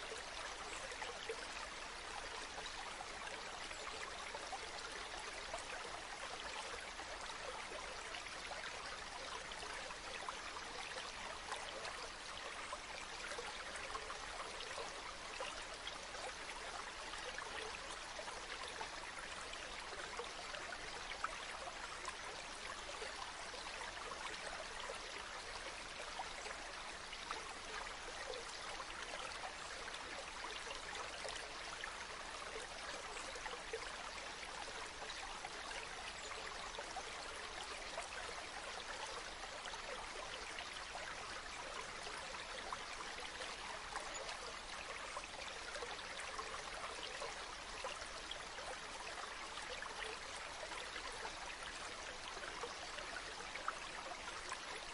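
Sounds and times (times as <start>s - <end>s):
shallow river babbling: 0.0s - 54.9s.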